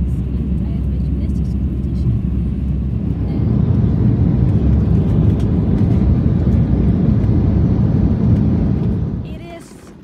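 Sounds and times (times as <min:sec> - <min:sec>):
vehicle rumble inside cabin: 0:00.0 - 0:10.0.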